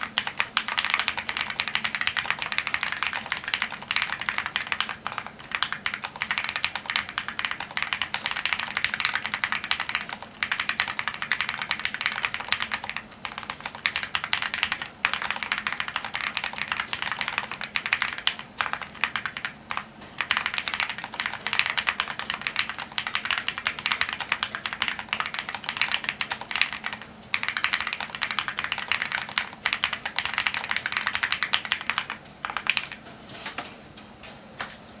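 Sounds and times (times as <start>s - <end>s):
mechanical keyboard typing: 0.0s - 33.0s.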